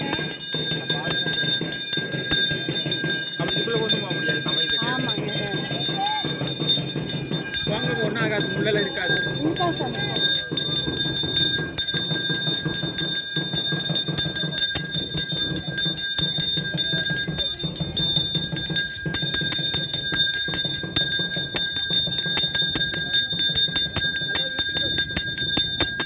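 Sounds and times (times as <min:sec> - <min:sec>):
temple bell ringing rapidly: 0:00.0 - 0:26.0.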